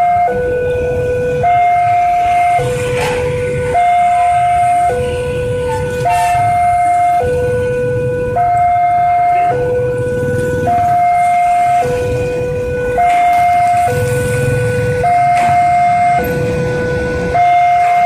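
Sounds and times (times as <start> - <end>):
level crossing two-tone siren: 0.0 - 18.0.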